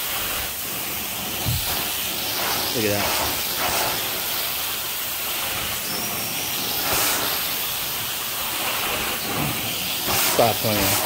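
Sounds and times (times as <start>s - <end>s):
carpet cleaning wand hissing: 0.0s - 11.0s.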